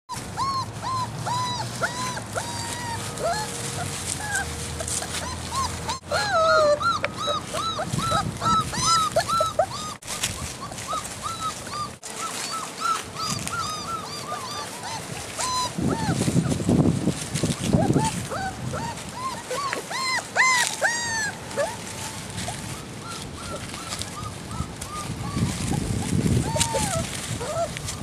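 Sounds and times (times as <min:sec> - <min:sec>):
puppies whimpering and crying: 0:00.1 - 0:28.0.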